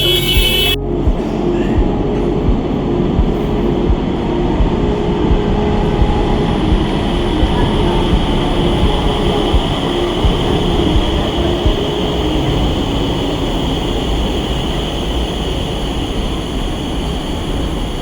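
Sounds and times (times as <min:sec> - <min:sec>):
faint steady whine: 0:00.0 - 0:18.0
train rumble: 0:00.0 - 0:18.0.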